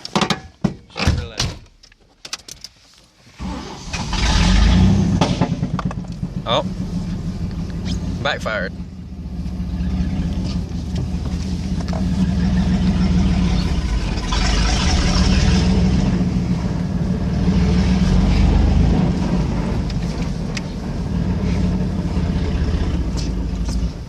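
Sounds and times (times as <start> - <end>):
truck engine revving: 3.4 - 24.0.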